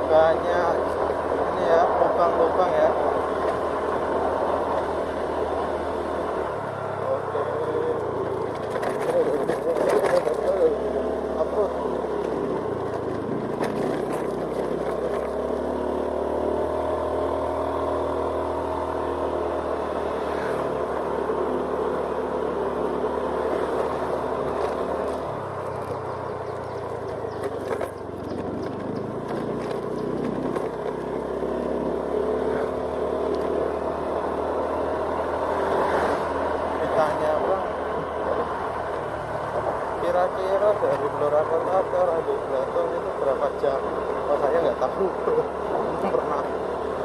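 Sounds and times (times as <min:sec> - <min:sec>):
road and wind noise: 0:00.0 - 0:47.0
scooter engine running: 0:00.0 - 0:47.0.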